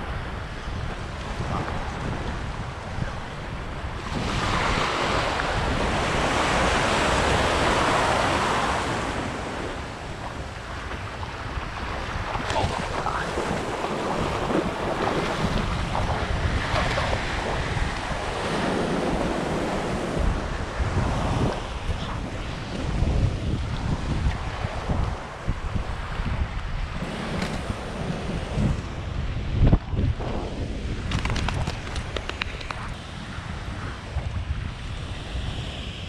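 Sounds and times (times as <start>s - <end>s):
waves washing on beach: 0.0s - 36.0s
wind buffeting microphone: 0.0s - 36.0s.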